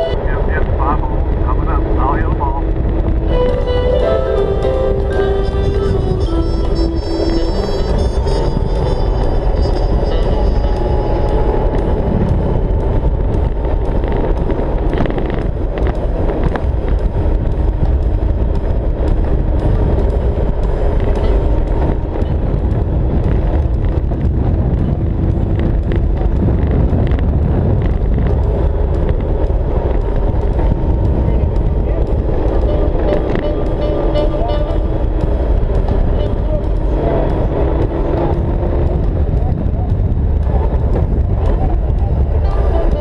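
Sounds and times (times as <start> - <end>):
motorcycle engine running: 0.0 - 43.0
road noise: 0.0 - 43.0
wind buffeting microphone: 0.0 - 43.0.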